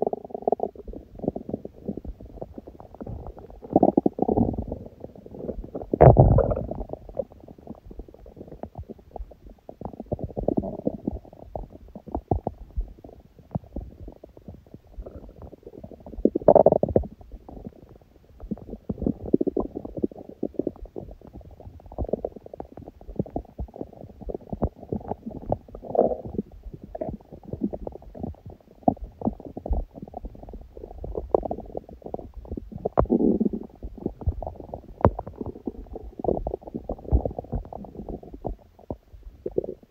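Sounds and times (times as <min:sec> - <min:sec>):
stomach growling: 0:00.0 - 0:39.9.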